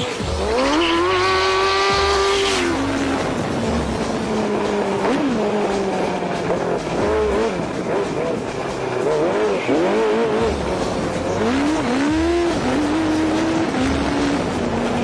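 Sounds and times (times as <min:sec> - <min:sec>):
engine rev blips: 0:00.0 - 0:15.0
go-kart engine accelerating: 0:00.0 - 0:15.0.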